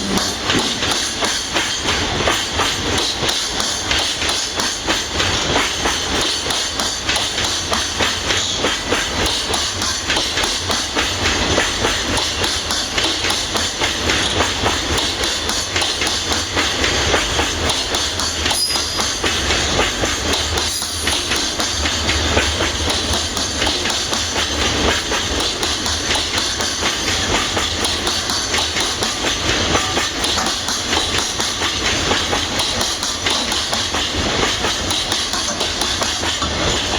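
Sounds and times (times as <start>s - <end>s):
train wheels clattering on rails: 0.0s - 36.9s.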